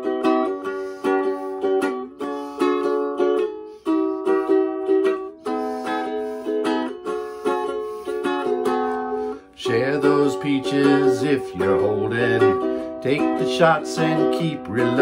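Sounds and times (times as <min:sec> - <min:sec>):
ukulele strumming: 0:00.0 - 0:15.0.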